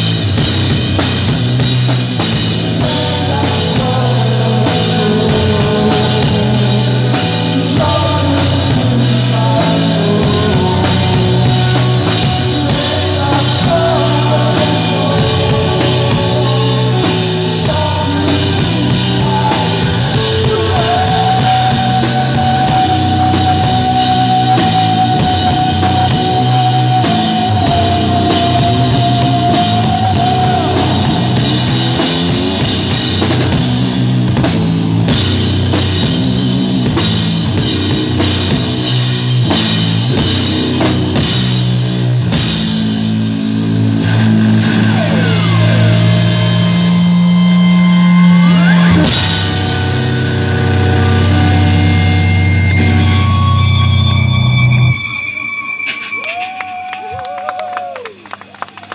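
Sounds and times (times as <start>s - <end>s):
drum kit: 0.0s - 55.0s
electric guitars: 0.0s - 58.9s.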